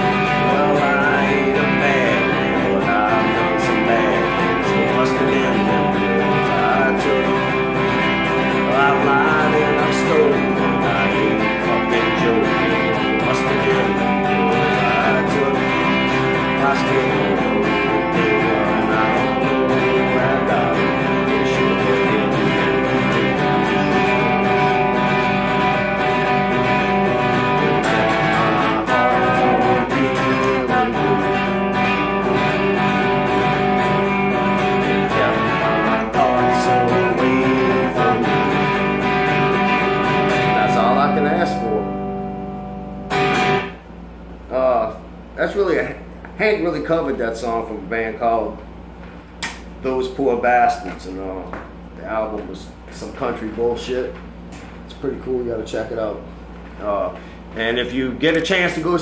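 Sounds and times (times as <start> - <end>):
electric guitar playing: 0.0 - 48.4.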